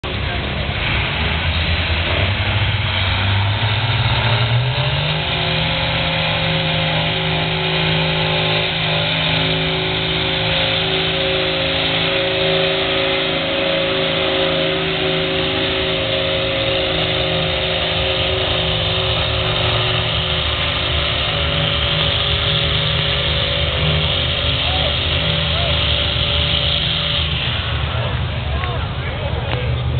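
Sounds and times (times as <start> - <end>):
pulling tractor engine revving: 0.0 - 29.9.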